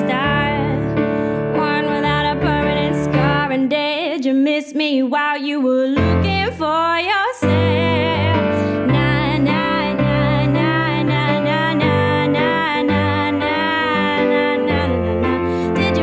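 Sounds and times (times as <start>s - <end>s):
piano chords: 0.0s - 4.0s, 6.0s - 16.0s
woman singing: 0.0s - 16.0s.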